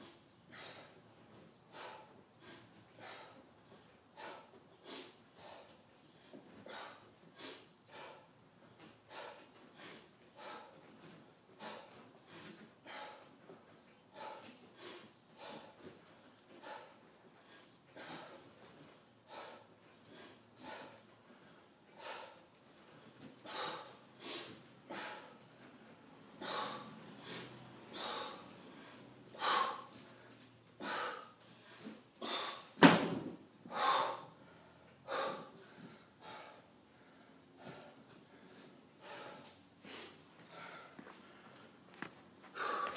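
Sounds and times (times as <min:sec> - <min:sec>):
man breathing hard: 0:00.0 - 0:32.8, 0:33.6 - 0:42.9.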